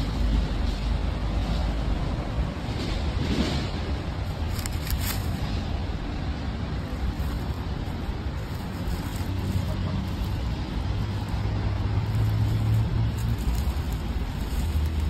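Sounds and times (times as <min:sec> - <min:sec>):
street traffic noise: 0:00.0 - 0:15.0
vehicle engine running: 0:02.6 - 0:15.0.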